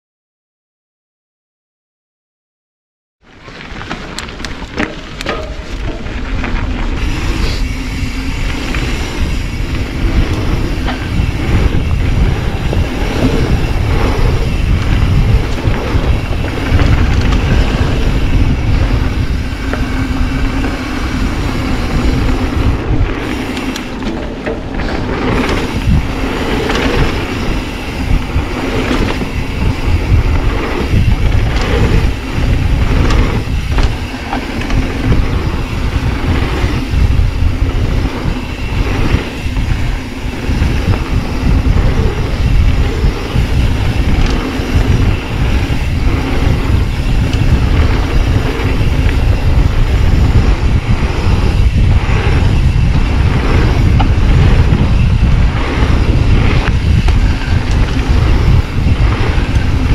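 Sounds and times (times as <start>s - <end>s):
bike knocking and rattling: 3.2s - 59.9s
bike tyres rumbling on dirt: 3.2s - 59.9s
wind buffeting microphone: 4.2s - 59.9s.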